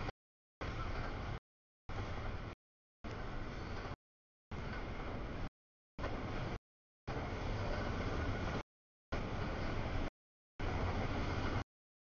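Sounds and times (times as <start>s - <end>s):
freight train wheels rumbling: 0.0s - 11.6s.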